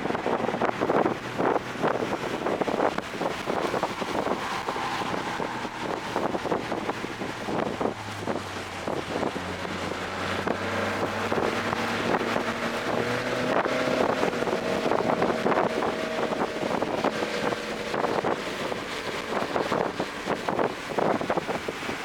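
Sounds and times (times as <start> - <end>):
car engine running hard: 0.0 - 22.0
wind noise: 0.0 - 22.0.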